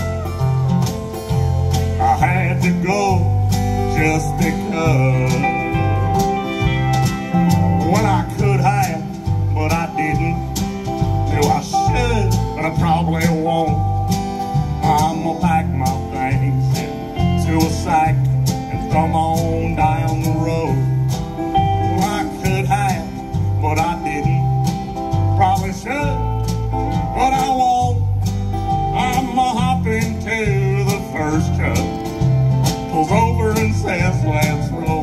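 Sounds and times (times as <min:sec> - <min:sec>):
bass guitar: 0:00.0 - 0:35.0
drums keeping a steady beat: 0:00.0 - 0:35.0
electric guitar: 0:00.0 - 0:35.0
pedal steel guitar lead line: 0:00.0 - 0:35.0.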